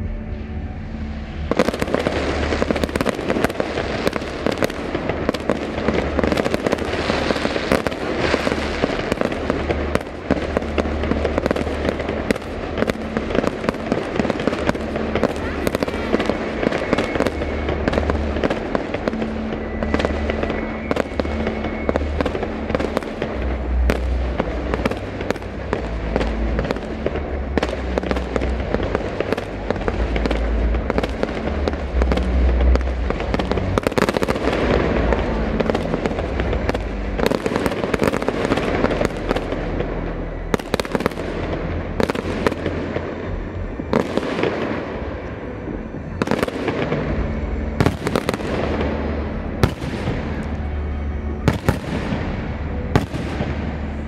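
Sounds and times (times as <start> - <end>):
firework crackling: 0.0 - 54.0.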